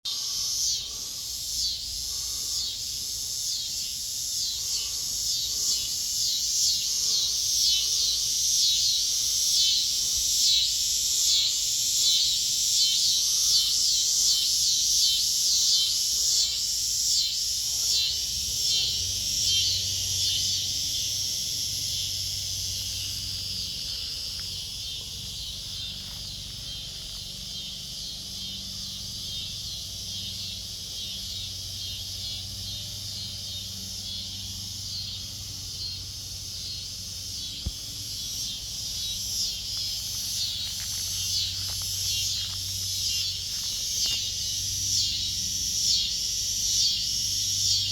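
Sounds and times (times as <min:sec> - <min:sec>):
cicadas buzzing: 0:00.0 - 0:47.9.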